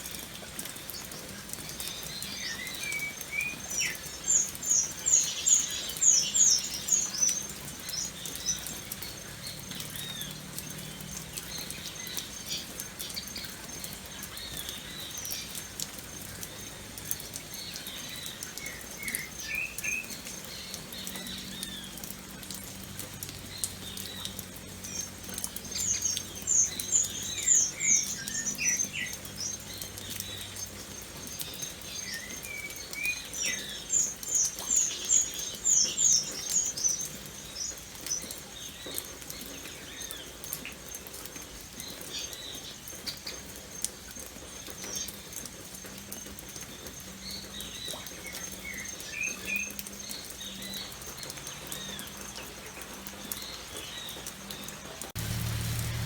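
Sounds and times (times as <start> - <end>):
rain pattering: 0.0 - 56.0
birds chirping: 0.9 - 40.3, 47.2 - 56.0.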